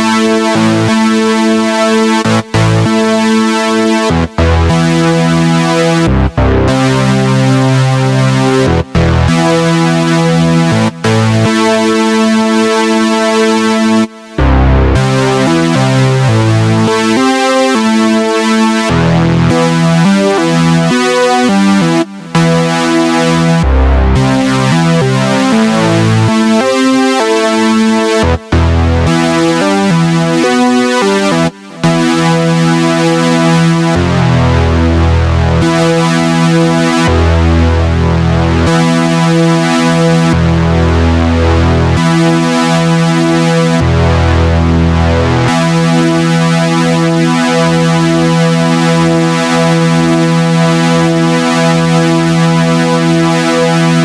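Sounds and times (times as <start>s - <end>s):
synthesizer chords: 0.0s - 54.0s.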